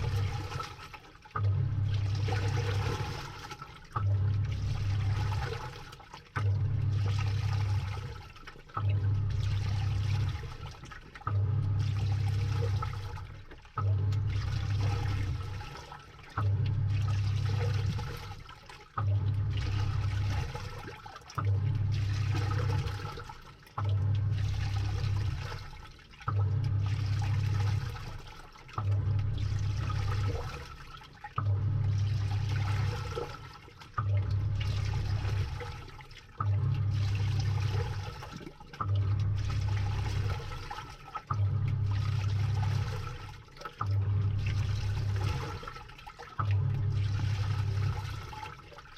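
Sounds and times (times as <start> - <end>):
washing machine motor hum: 0.0 - 48.9
water sloshing: 0.0 - 48.9.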